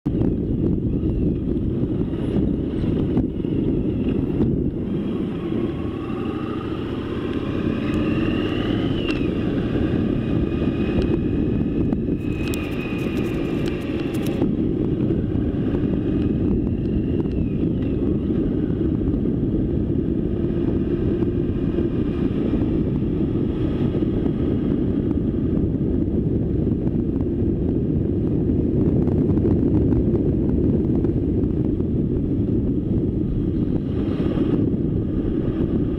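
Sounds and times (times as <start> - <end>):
wind rumble on microphone: 0.0 - 35.9
motorcycle engine accelerating: 0.1 - 35.9.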